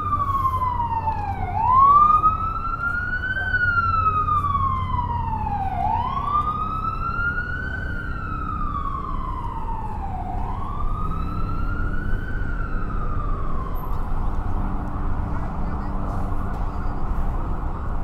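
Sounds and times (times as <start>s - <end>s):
emergency siren wailing: 0.0s - 18.0s
low city rumble: 0.0s - 18.0s.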